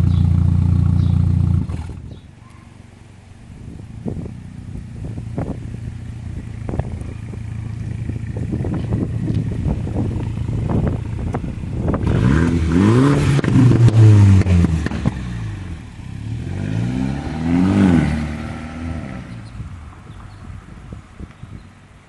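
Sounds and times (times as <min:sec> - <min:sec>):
car exhaust rumbling and revving: 0:00.0 - 0:22.0.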